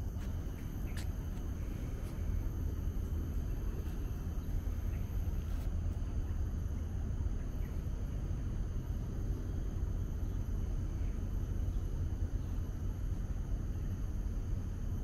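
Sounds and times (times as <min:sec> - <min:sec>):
faint high-pitched tones: 0:00.0 - 0:13.2
steady low rumble: 0:00.0 - 0:15.0.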